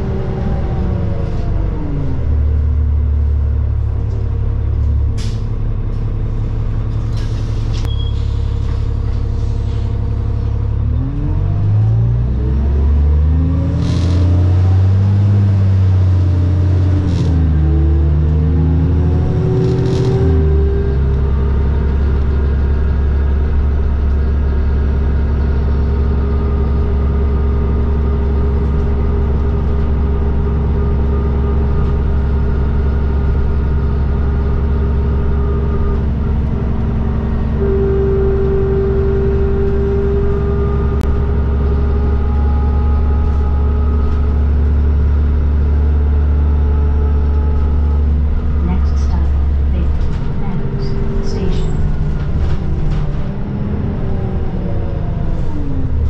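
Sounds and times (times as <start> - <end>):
diesel bus engine revving: 0.0 - 56.0.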